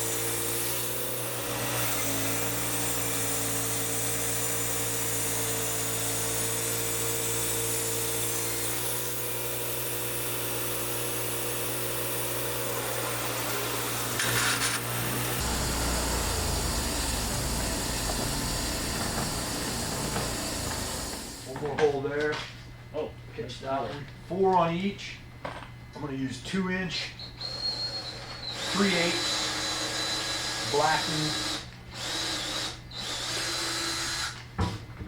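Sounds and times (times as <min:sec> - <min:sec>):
power drill boring into wood: 0:00.0 - 0:21.5, 0:27.4 - 0:34.4.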